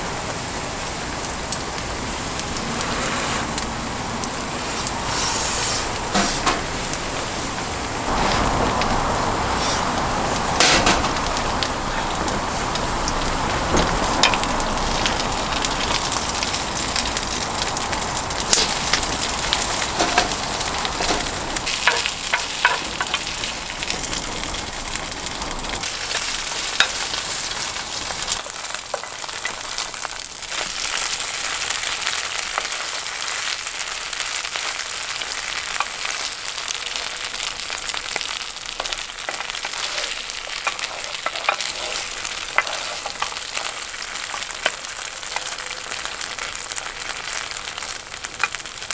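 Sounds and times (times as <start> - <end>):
food frying in hot oil: 0.0 - 48.9.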